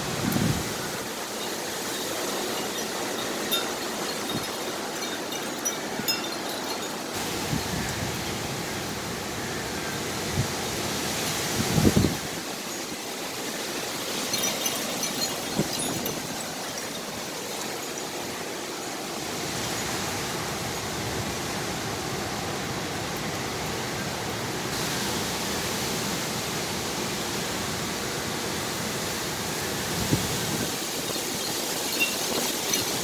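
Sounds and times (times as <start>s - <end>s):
hurricane wind and rain rushing: 0.0s - 33.0s.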